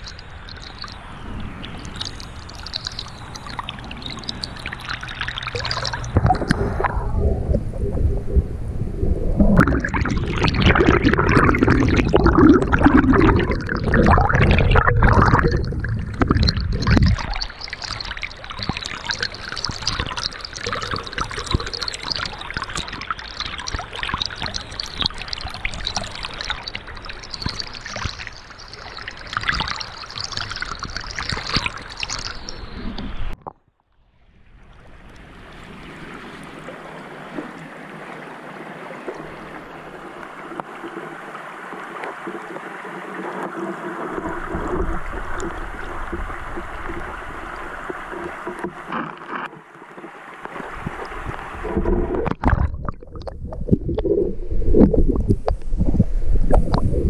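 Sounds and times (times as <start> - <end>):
underwater fizzing hiss of bubbles: 0.0 - 33.4, 34.9 - 57.0.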